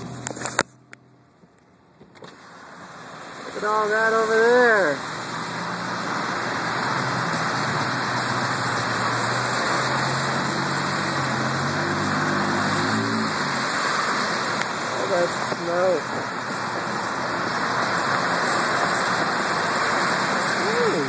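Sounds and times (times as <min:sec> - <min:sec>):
car engine drone: 0:00.0 - 0:21.0
tyres hissing on wet road: 0:02.1 - 0:21.0.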